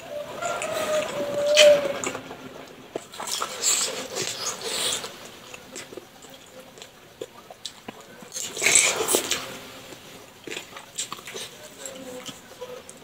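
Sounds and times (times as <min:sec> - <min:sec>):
wet slurping and chewing: 0:00.0 - 0:13.0.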